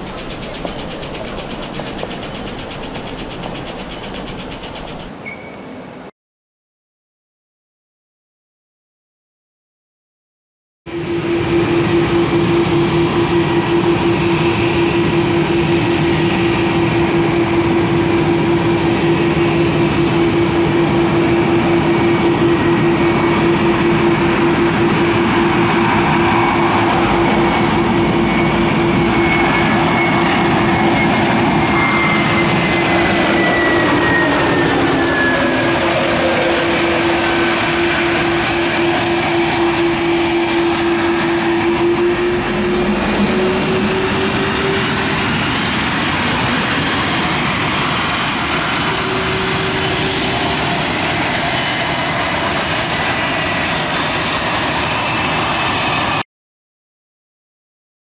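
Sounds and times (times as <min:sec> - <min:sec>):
jet airliner engines roaring: 0:00.0 - 0:06.1, 0:10.9 - 0:56.2.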